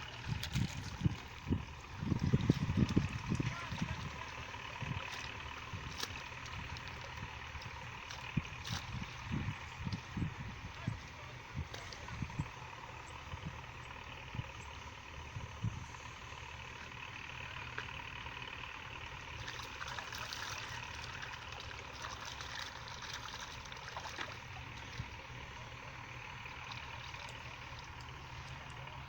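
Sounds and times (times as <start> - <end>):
small engine humming: 0.0 - 29.0.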